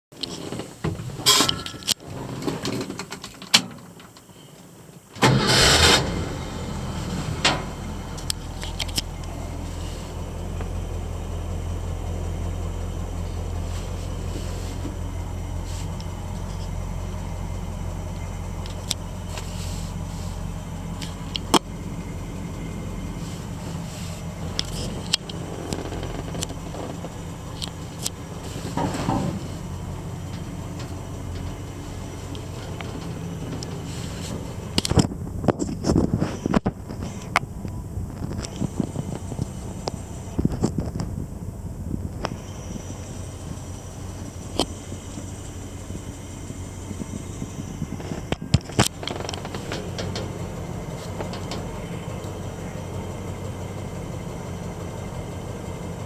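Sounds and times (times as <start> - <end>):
pickup engine starting and idling: 0.2 - 56.0.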